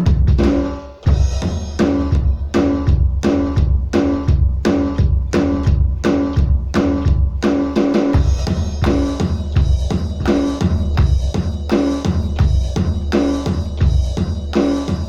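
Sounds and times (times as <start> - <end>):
backing music with bass line: 0.0 - 15.0
electronic drum kit rock beat: 0.0 - 15.0.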